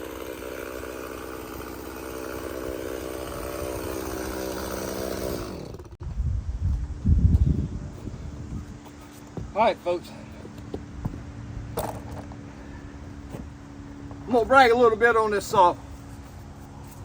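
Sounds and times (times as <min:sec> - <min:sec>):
chainsaw running: 0:00.0 - 0:06.0, 0:07.8 - 0:17.0.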